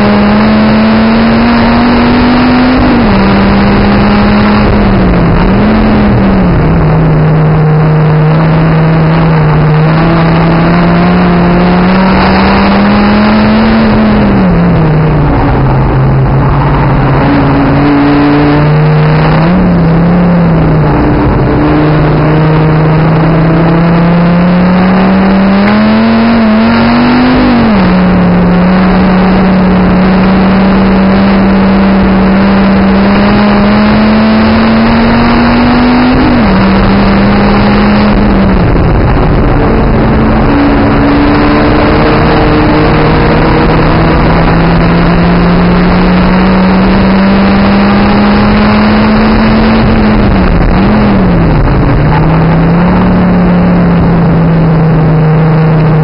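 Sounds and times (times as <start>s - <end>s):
car engine pulling hard: 0.0s - 56.0s
wind and road noise: 0.0s - 56.0s.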